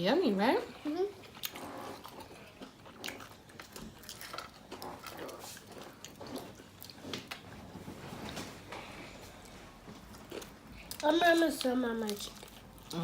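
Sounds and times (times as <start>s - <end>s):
chewing and crunching: 0.8s - 7.8s, 8.8s - 13.0s.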